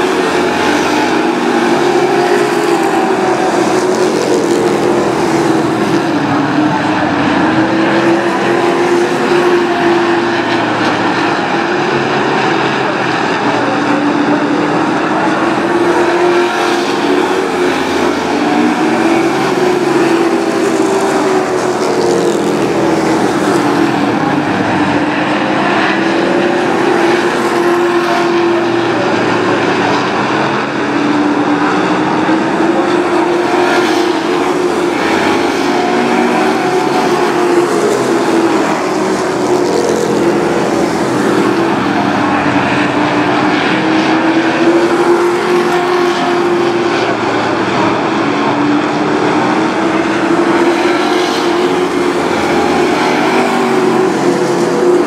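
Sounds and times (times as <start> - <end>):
race truck engines droning: 0.0 - 55.0.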